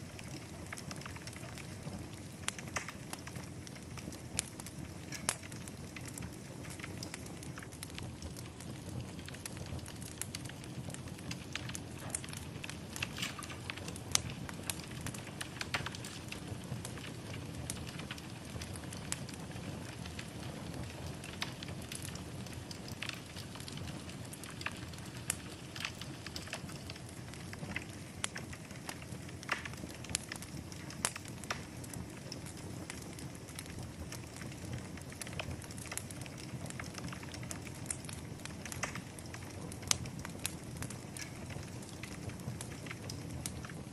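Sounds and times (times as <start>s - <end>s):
fire crackling and popping: 0.0s - 43.9s
flames rushing: 0.0s - 43.9s.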